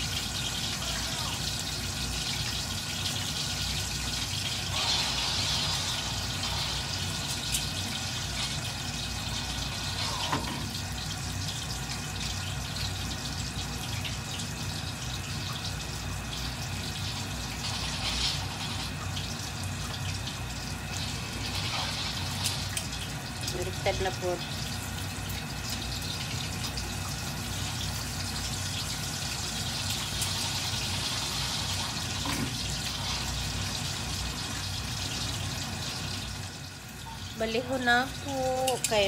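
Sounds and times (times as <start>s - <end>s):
oil popping and crackling: 0.0s - 12.6s, 16.4s - 36.1s
pork deep-frying in oil: 0.0s - 39.0s.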